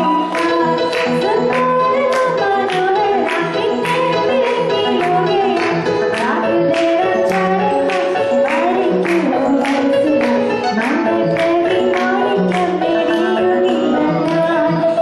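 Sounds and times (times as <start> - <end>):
musical accompaniment with steady beat: 0.0 - 15.0
woman singing into a microphone: 0.0 - 15.0.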